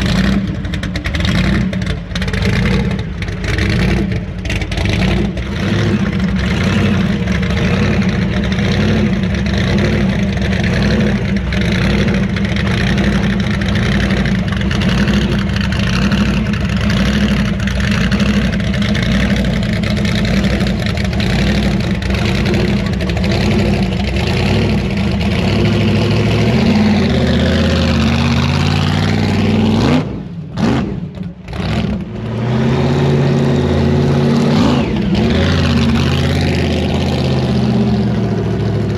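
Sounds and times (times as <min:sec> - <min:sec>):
truck engine running loudly: 0:00.0 - 0:38.9.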